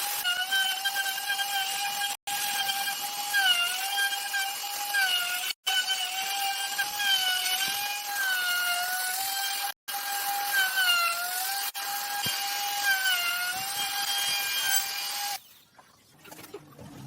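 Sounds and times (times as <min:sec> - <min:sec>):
power tool motor whining: 0:00.0 - 0:15.4.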